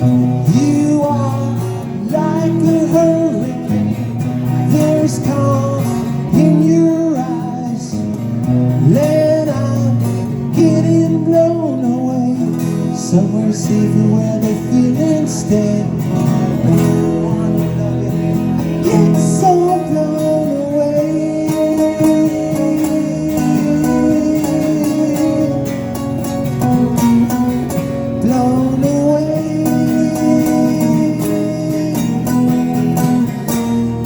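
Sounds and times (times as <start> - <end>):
live rock music with guitars: 0.0 - 34.0.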